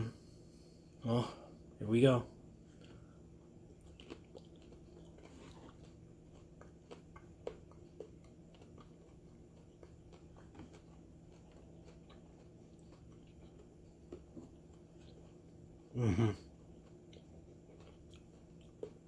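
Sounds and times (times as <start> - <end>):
room hum: 0.0 - 19.0
man chewing: 2.6 - 19.0.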